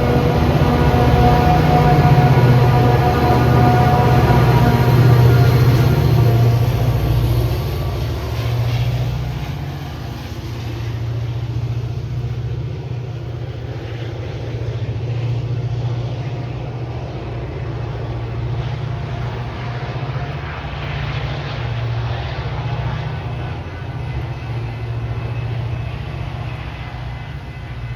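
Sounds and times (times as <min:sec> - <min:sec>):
diesel locomotive droning: 0:00.0 - 0:27.9.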